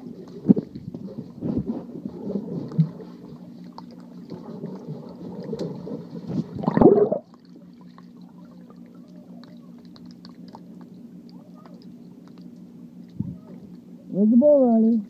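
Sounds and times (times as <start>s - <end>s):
underwater churning and bubbling: 0.0s - 14.1s
steady low hum: 0.0s - 15.0s.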